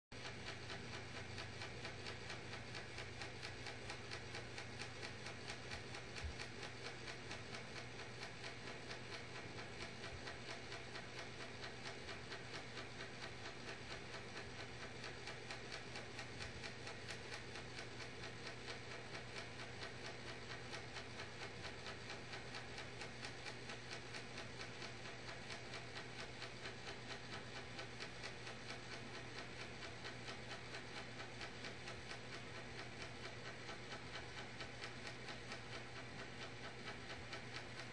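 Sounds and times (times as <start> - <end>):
fast even ticking: 0.2 - 37.9.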